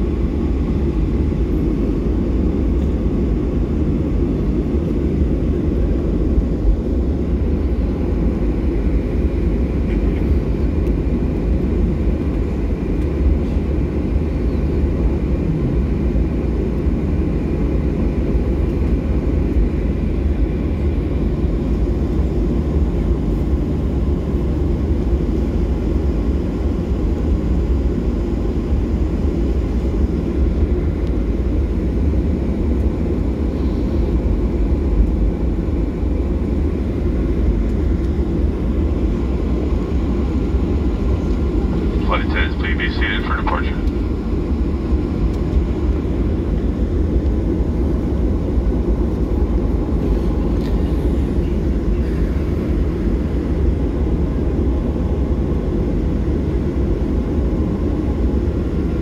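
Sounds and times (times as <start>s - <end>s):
airliner engines rumbling: 0.0s - 59.0s.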